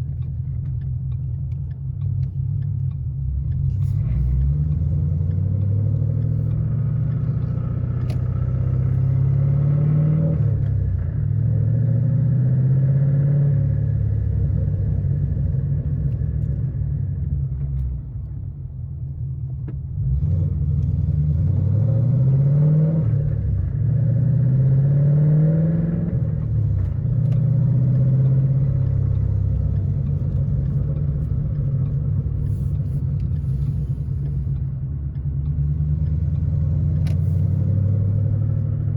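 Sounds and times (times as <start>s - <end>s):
car engine revving: 0.0s - 18.3s, 19.9s - 38.9s.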